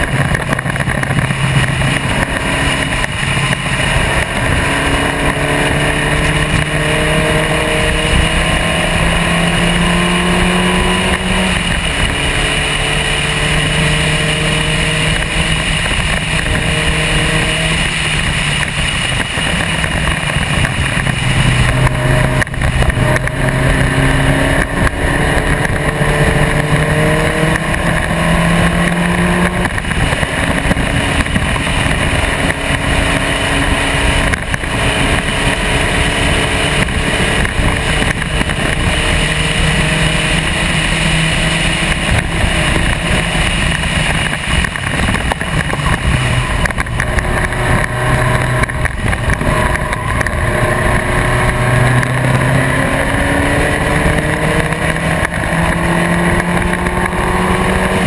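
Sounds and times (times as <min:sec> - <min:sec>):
race car engine revving: 0:00.0 - 0:58.0
wind noise: 0:00.0 - 0:58.0.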